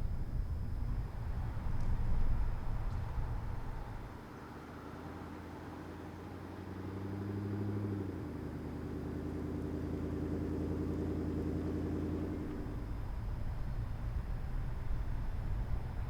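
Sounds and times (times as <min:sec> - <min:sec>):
pickup truck engine driving: 0:00.0 - 0:16.0.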